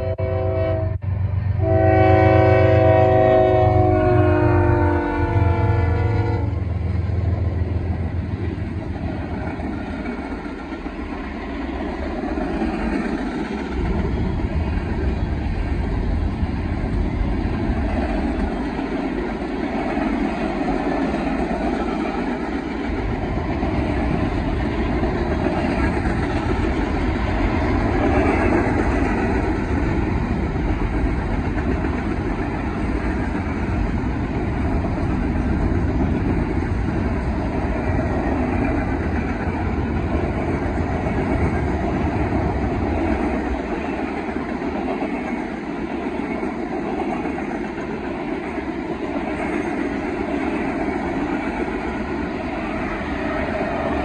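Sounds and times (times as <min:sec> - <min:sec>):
steel wheels roaring on rail: 0:00.0 - 0:54.0.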